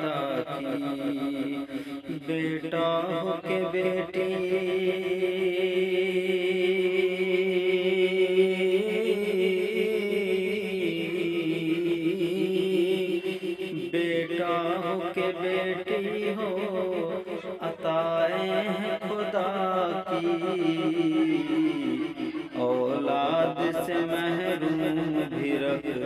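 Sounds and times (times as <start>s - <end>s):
man singing long held notes: 0.0s - 26.0s.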